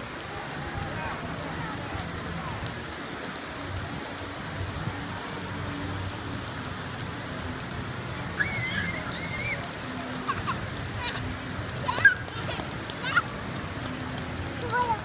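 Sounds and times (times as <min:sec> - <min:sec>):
fountain water cascading: 0:00.0 - 0:15.0
rain falling on wet paving: 0:00.0 - 0:15.0.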